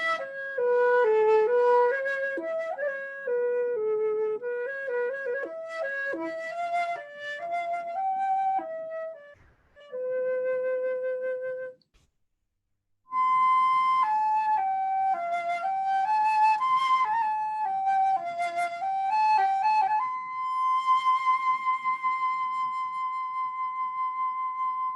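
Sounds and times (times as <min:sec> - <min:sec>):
flute playing slow melody: 0:00.0 - 0:11.8, 0:13.1 - 0:24.9.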